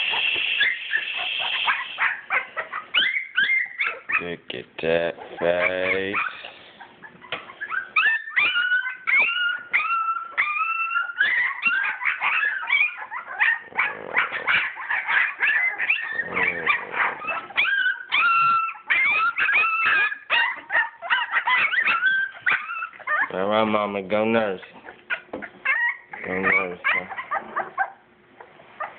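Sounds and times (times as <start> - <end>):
puppies whining and yelping: 0.0 - 4.3, 5.1 - 23.5, 24.7 - 28.9.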